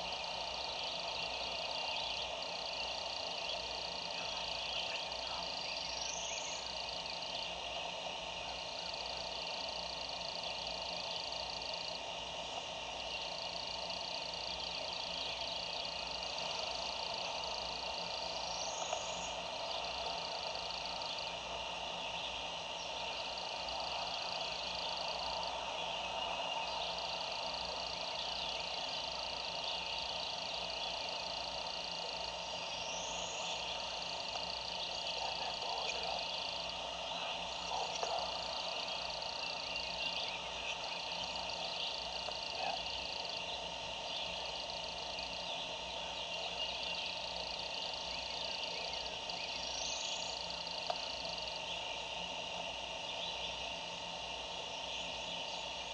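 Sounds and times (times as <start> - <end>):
chorus of frog calls: 0.0 - 55.9.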